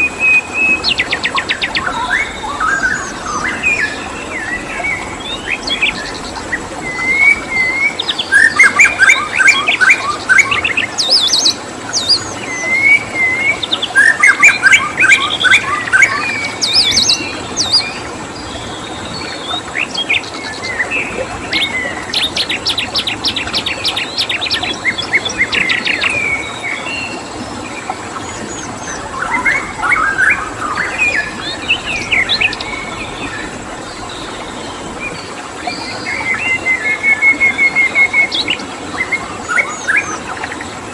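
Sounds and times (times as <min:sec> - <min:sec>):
songbirds singing: 0:00.0 - 0:40.9
steady background hiss: 0:00.0 - 0:40.9.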